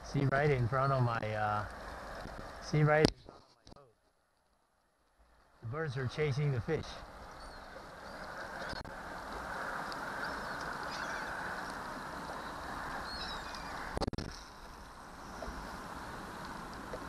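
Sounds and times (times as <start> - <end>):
birds calling: 0.0 - 2.8, 5.7 - 17.0.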